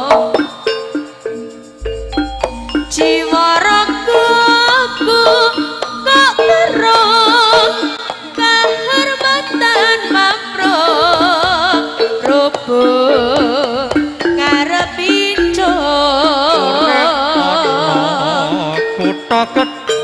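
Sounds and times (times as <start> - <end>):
pitched percussion notes: 0.0 - 20.0
wavering melody with vibrato: 0.0 - 20.0.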